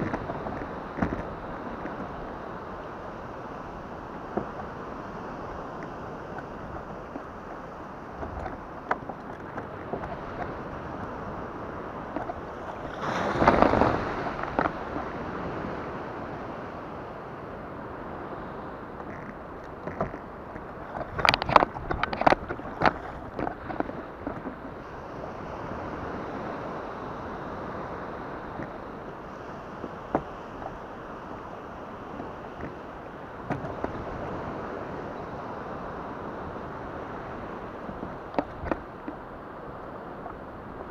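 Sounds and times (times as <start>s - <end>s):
water washing around kayak: 0.0s - 40.9s
wind: 0.0s - 40.9s.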